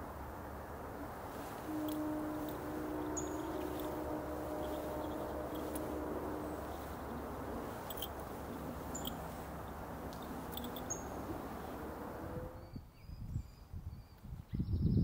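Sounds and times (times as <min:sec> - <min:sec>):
low outdoor rumble: 0:00.0 - 0:12.8.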